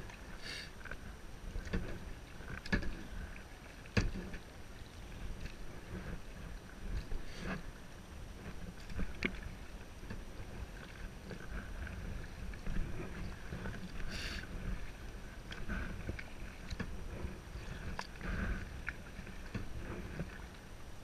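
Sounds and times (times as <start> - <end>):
paddle splashing water: 0.0 - 21.0
wind on microphone: 1.1 - 21.0.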